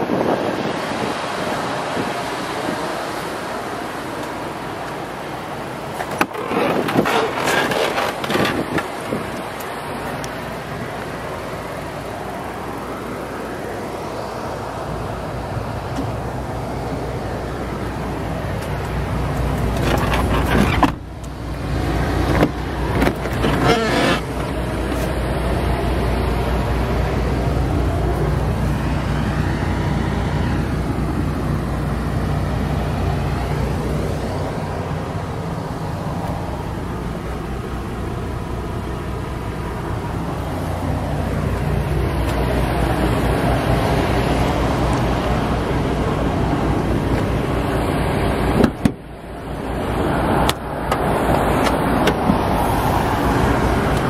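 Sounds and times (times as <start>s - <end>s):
vehicle engine idling: 2.5s - 54.0s.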